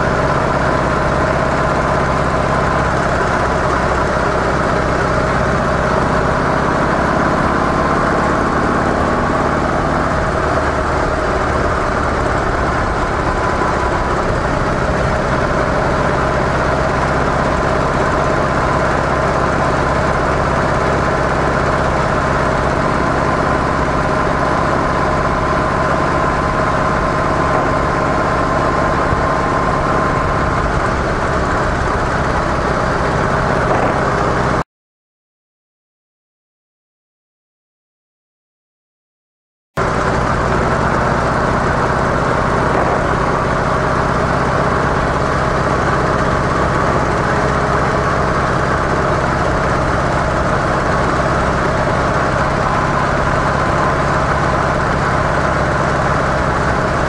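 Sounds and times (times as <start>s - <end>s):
motorcycle engine running: 0.0s - 34.6s, 39.8s - 57.0s
rush of noise: 0.0s - 34.6s, 39.8s - 57.0s.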